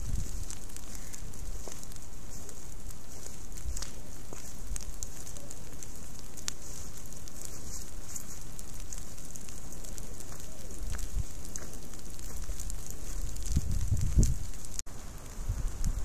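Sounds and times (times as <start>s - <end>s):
fire crackling in leaf litter: 0.0s - 16.0s.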